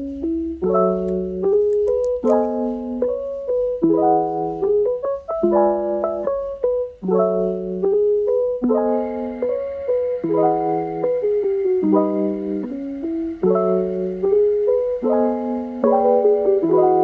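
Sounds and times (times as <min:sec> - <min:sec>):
light keyboard tune: 0:00.0 - 0:17.0.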